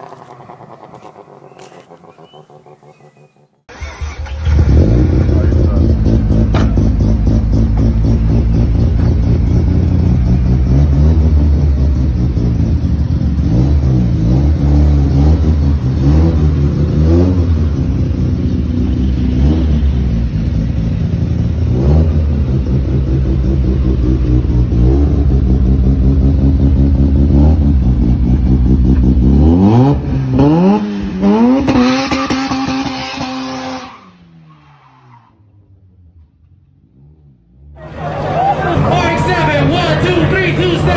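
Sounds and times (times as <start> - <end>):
rotary engine revving: 0.0 - 34.0.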